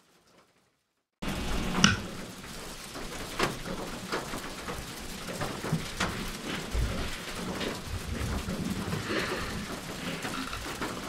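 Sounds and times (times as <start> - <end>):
rain pattering: 0.0 - 11.0
low rumble of thunder: 1.2 - 11.0.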